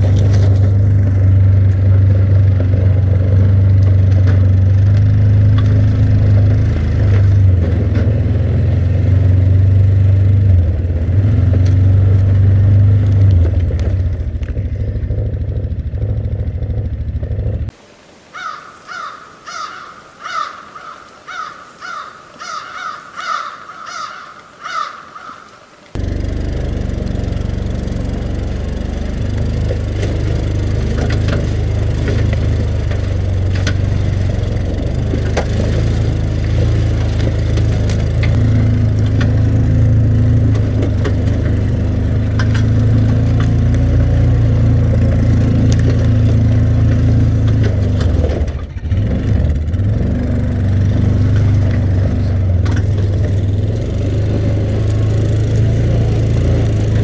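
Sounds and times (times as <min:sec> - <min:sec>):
knocks and clatter of trailer: 0:00.0 - 0:17.7, 0:26.0 - 0:57.0
atv engine running: 0:00.0 - 0:17.8, 0:22.6 - 0:57.0.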